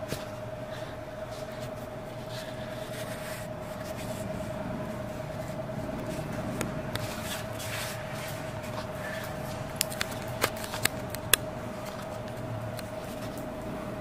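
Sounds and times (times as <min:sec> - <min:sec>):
constant tone: 0:00.0 - 0:14.0.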